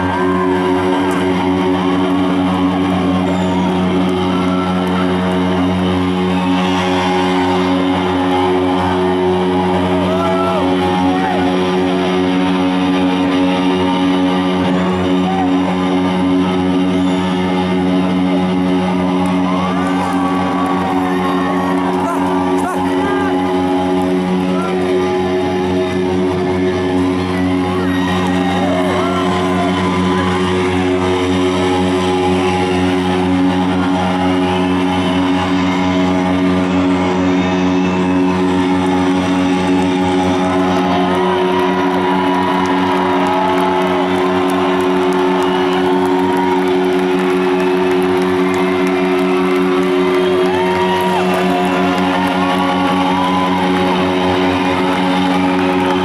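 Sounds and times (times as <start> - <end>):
crowd cheering and whooping: 0.0 - 56.0
live rock band droning chord: 0.0 - 56.0.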